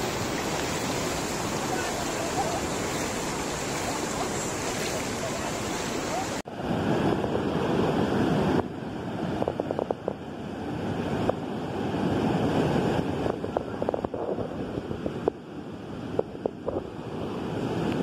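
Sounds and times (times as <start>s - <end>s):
floodwater rushing in a river: 0.0s - 18.0s.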